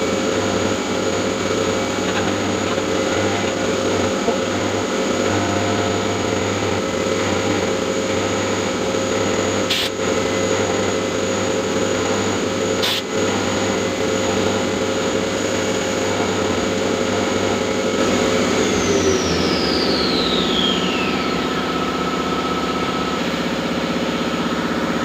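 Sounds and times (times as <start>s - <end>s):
milling machine running: 0.0s - 25.0s.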